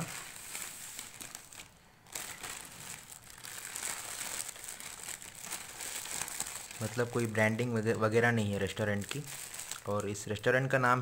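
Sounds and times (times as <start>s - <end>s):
foil and plastic bag crinkling: 0.0s - 10.8s.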